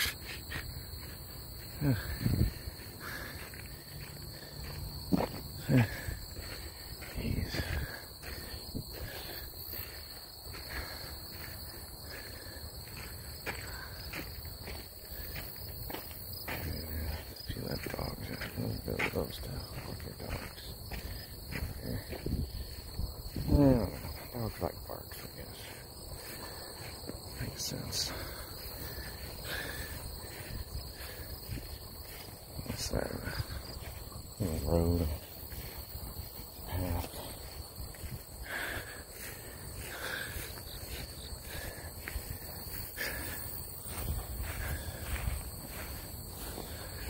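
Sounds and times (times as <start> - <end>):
crickets trilling: 0.0 - 47.0
footsteps on gravel: 0.0 - 47.0
high-pitched insect chorus: 0.0 - 47.0.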